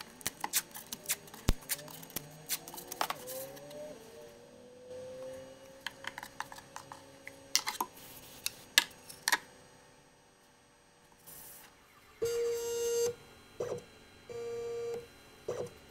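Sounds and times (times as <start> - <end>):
faint steady hum: 0.0 - 15.9.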